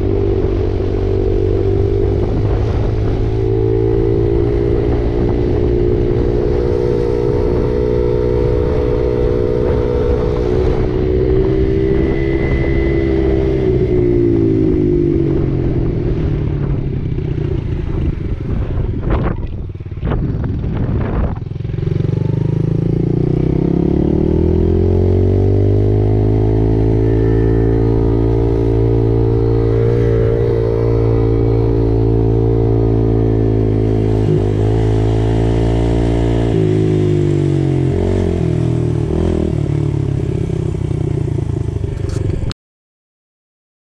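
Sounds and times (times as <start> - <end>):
dirt bike engine: 0.0 - 42.5.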